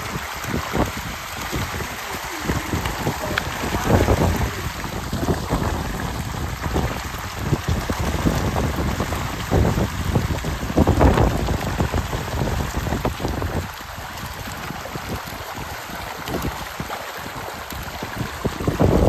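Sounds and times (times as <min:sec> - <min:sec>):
fish splashing at surface: 0:00.0 - 0:19.0.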